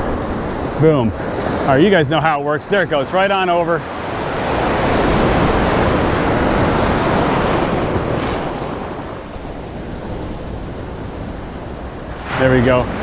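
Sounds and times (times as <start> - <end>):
wave breaking and rushing: 0.0 - 13.0.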